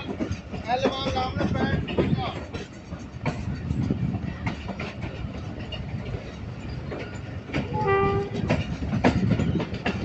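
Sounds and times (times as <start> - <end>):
train rumbling: 0.0 - 10.0
wheels knocking over rail joints: 0.0 - 10.0.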